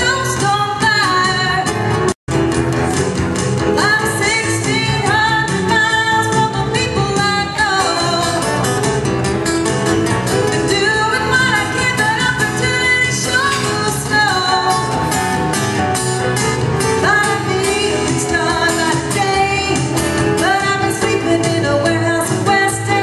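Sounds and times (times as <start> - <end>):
country-pop song with vocals: 0.0 - 23.0.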